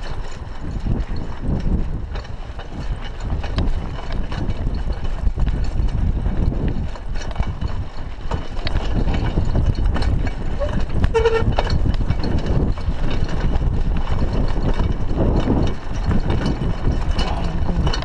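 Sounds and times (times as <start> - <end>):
bike rattling and knocking: 0.0 - 18.0
bike tyres rumbling on dirt road: 0.0 - 18.0.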